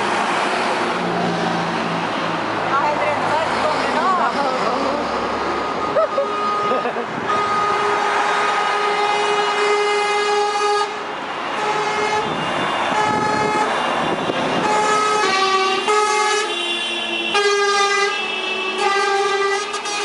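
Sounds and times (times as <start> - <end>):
truck engines and tyres: 0.0 - 20.0
truck horns blasting: 3.6 - 20.0.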